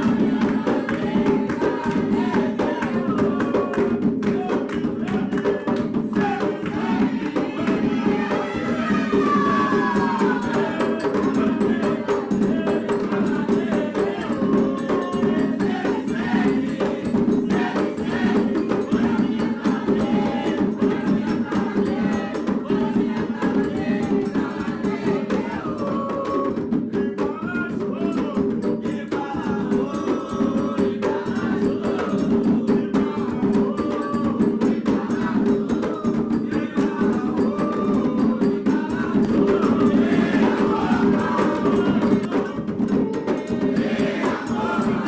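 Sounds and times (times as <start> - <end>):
hand drums beating: 0.0 - 45.0
voices singing a chant: 0.0 - 45.0.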